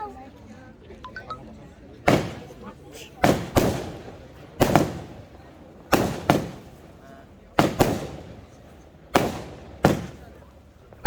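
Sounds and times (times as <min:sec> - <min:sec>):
firework bangs: 0:02.0 - 0:11.0.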